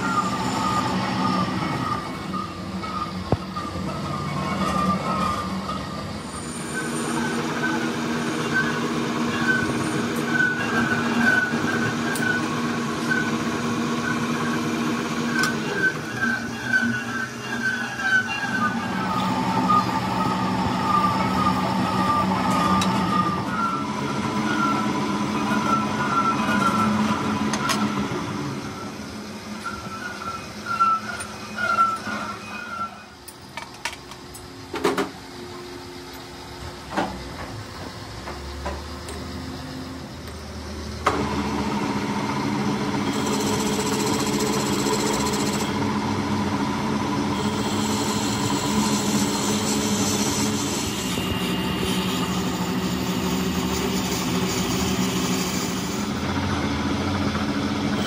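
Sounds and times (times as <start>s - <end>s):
metal lathe humming: 0.0s - 33.1s, 39.0s - 58.0s.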